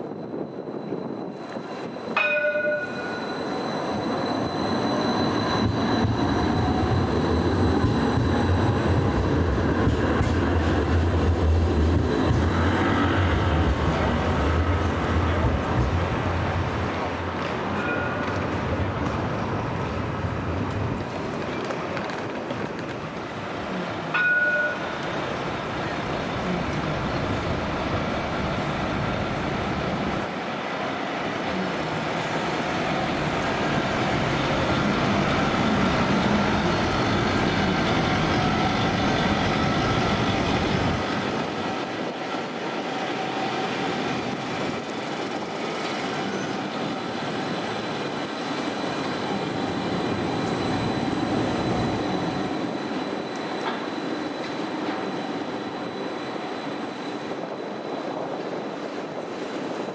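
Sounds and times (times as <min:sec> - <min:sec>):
tram running on street track: 0:00.0 - 0:59.9
city traffic: 0:04.8 - 0:59.8.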